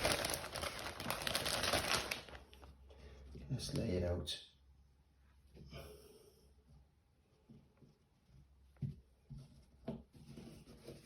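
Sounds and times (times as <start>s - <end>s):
quiet room hum: 0.0s - 11.0s.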